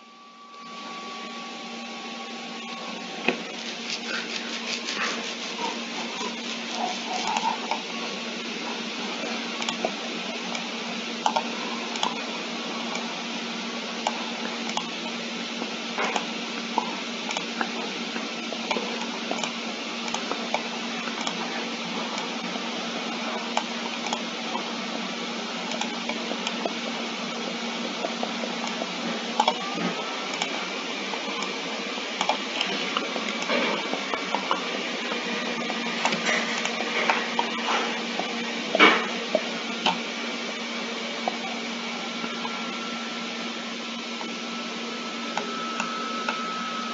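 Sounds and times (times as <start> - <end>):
steady hiss and low hum: 0.0 - 46.9.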